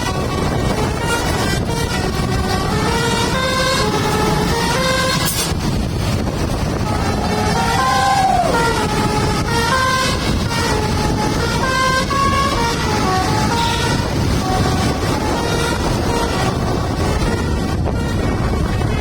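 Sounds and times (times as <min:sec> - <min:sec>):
multi-tone bus horn melody: 0:00.0 - 0:19.0
steady low rumble: 0:00.0 - 0:19.0.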